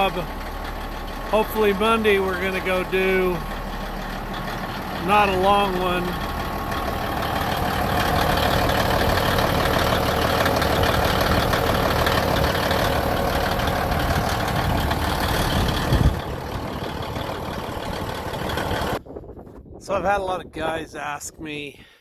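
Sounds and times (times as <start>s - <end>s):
large diesel engine running: 0.0s - 19.4s.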